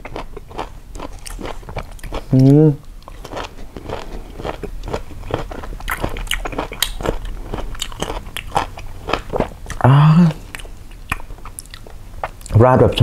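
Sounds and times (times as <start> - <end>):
person chewing crunchy fruit: 0.0 - 12.6.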